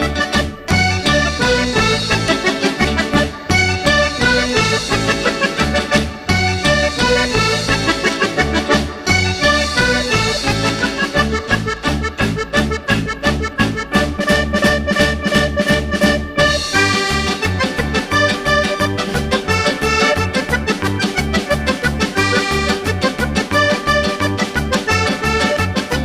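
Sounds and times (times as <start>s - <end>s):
accordion: 0.0s - 26.0s
bouncing bass beat: 0.0s - 26.0s.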